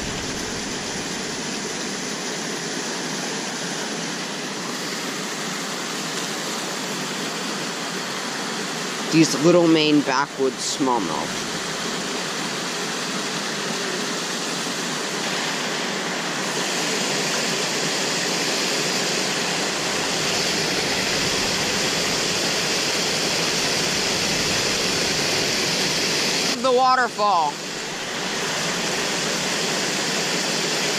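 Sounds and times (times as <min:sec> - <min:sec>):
water rushing over spillway: 0:00.0 - 0:30.9.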